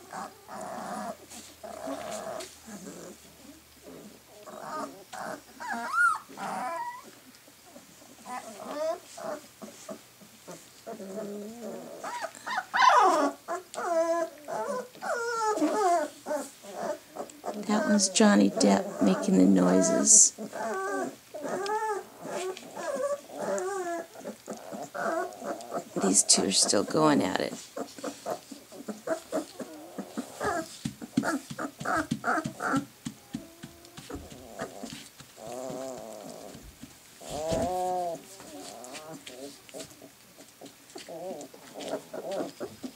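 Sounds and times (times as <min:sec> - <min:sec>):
puppies growling: 0:00.0 - 0:42.9
puppies yelping: 0:00.0 - 0:42.9.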